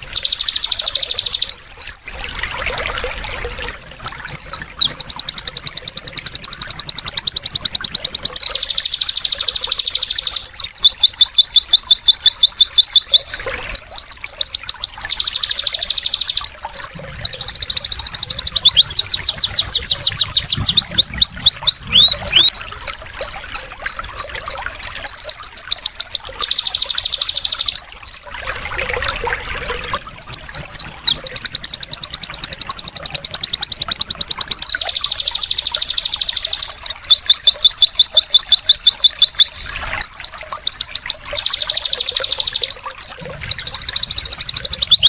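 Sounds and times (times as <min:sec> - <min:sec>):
babbling water: 0:00.0 - 0:45.0
bird trilling and chattering: 0:03.7 - 0:45.0.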